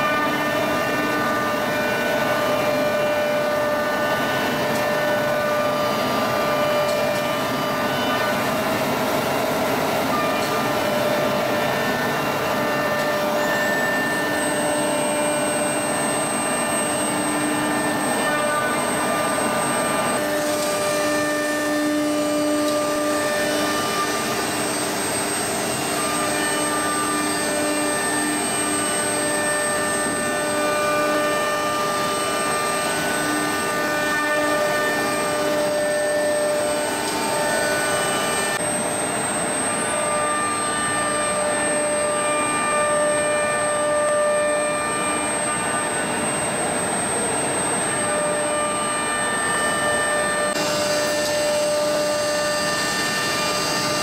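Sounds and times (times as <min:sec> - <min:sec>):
cnc router running: 0:00.0 - 0:54.0
high thin spindle whine: 0:00.0 - 0:54.0.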